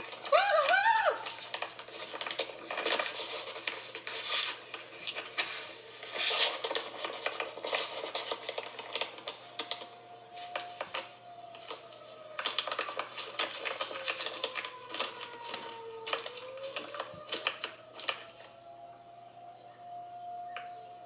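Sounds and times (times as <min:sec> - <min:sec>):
rapid clicking and tapping: 0:00.0 - 0:18.5.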